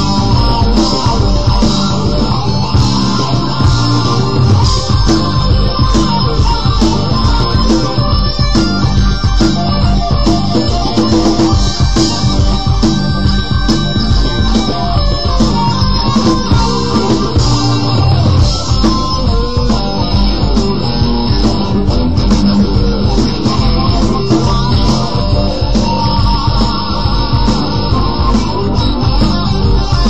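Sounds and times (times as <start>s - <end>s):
electric guitar: 0.0s - 30.0s
rock backing track: 0.0s - 30.0s.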